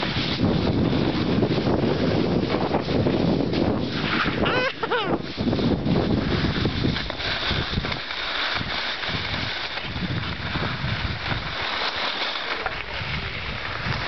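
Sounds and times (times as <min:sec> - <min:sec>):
wind buffeting microphone: 0:00.0 - 0:11.8, 0:12.6 - 0:14.0
steady hiss: 0:00.0 - 0:14.0.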